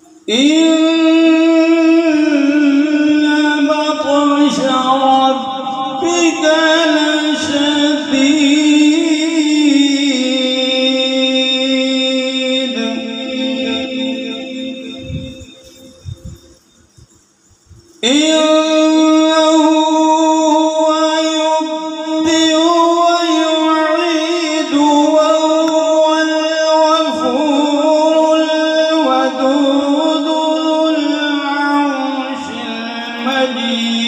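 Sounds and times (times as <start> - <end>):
man chanting into a microphone: 0.0 - 16.4, 18.0 - 34.0.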